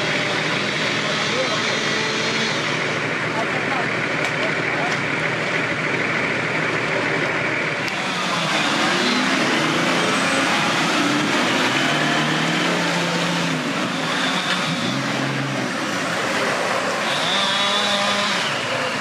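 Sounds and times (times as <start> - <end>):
engine revving: 0.0 - 5.0, 6.3 - 19.0.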